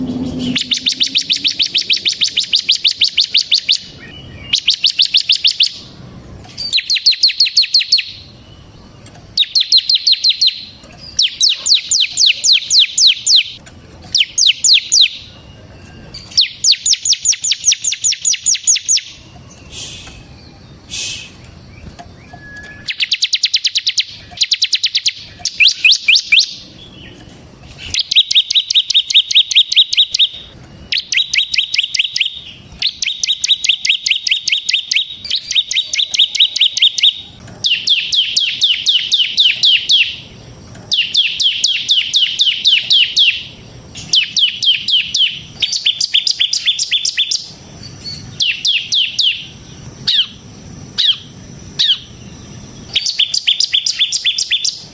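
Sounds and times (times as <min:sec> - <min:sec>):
bird singing drill-like song: 0:00.0 - 0:54.9.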